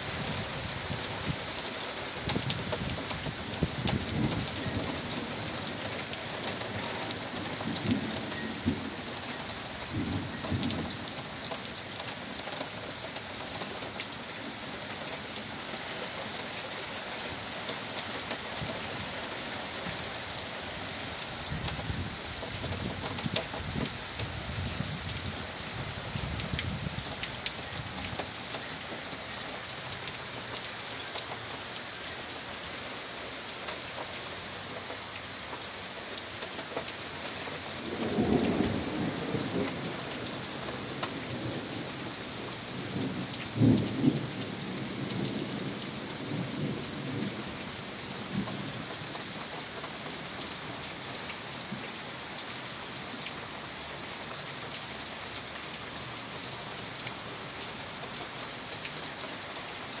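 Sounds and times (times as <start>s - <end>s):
rain on pavement and grass: 0.0s - 60.0s.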